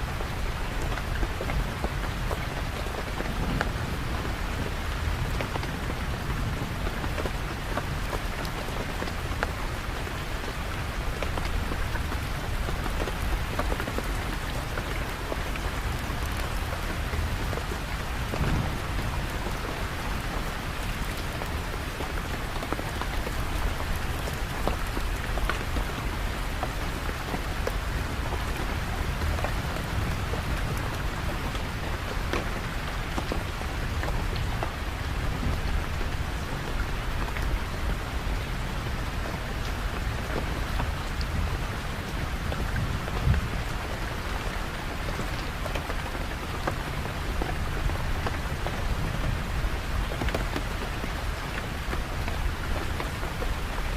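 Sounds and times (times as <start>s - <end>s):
heavy rain pattering: 0.0s - 53.9s.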